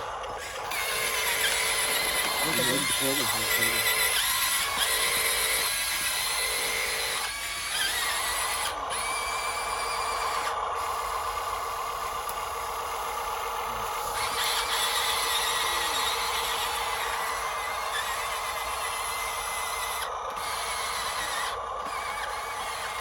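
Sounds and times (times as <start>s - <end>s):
small electric motor whining: 0.0s - 23.0s.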